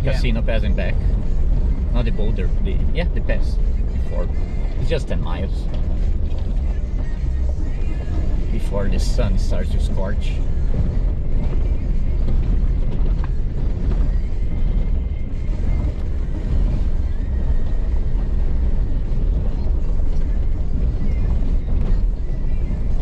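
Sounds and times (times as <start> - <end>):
vehicle engine rumble: 0.0 - 23.0
wind: 0.0 - 23.0.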